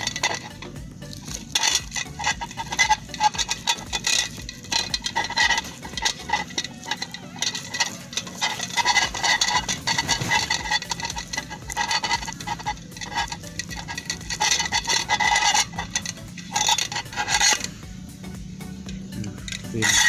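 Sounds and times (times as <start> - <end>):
plastic string rustling: 0.0 - 17.9.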